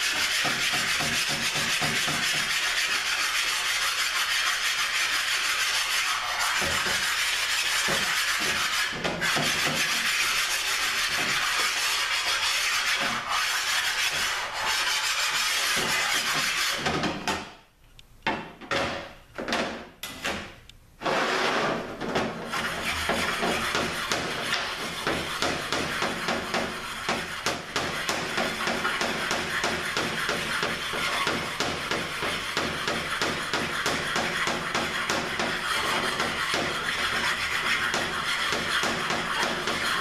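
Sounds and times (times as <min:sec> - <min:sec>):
metal sanding on stone: 0:00.0 - 0:16.8, 0:22.5 - 0:40.0.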